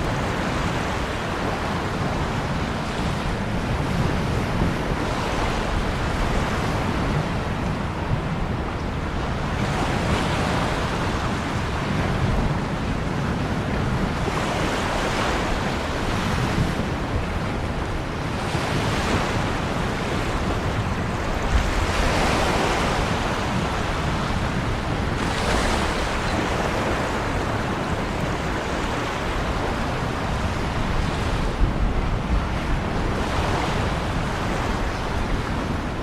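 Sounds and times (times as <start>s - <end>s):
ocean waves breaking on shore: 0.0s - 36.0s.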